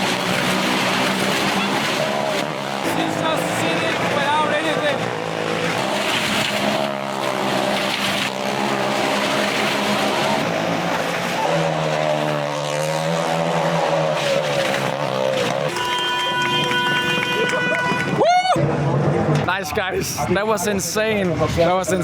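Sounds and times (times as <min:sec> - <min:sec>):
vehicle engine revving: 0:00.0 - 0:19.4.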